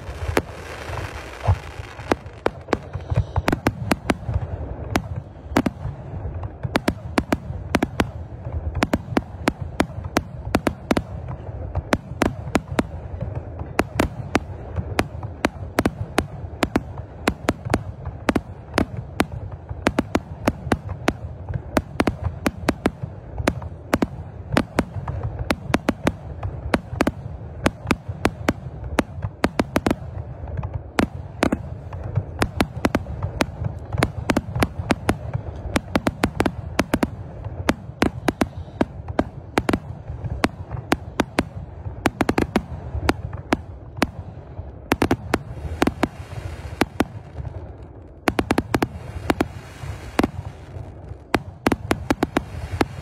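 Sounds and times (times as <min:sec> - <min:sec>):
fireworks bangs: 0:00.0 - 0:53.0.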